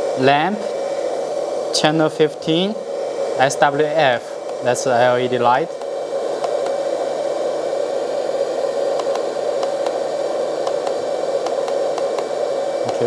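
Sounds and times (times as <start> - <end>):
hydraulic pump whirring: 0.0 - 13.0.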